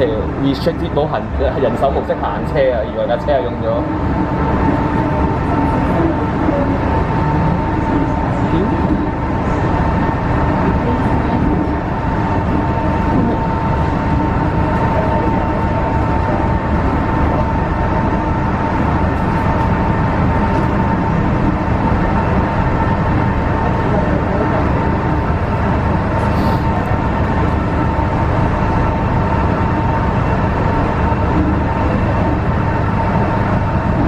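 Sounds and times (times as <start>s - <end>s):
constant train whine: 0.0s - 34.0s
train wheels rumbling in tunnel: 0.0s - 34.0s.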